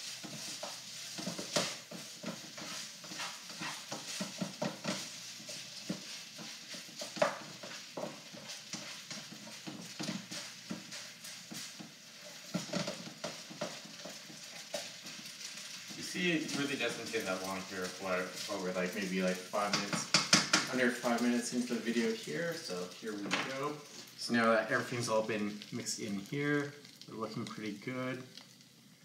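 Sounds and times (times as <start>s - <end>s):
spatula scraping in a wok: 0.0s - 27.0s
food sizzling: 0.0s - 29.0s.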